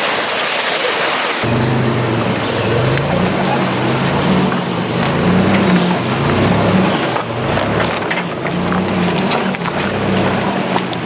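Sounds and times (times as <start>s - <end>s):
tyre and road noise: 1.4s - 11.0s
vehicle engine running: 1.4s - 11.0s.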